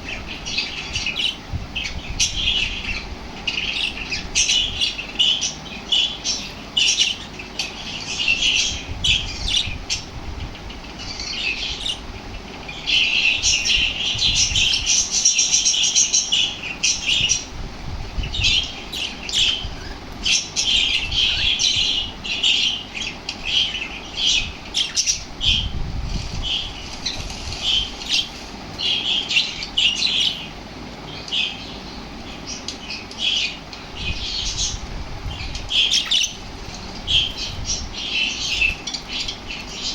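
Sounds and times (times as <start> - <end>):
parrots chirping and squawking: 0.0 - 25.7, 26.3 - 39.9.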